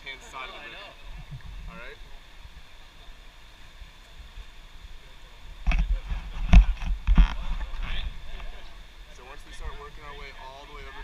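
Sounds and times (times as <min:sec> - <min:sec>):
faint river water rushing: 0:00.0 - 0:11.0.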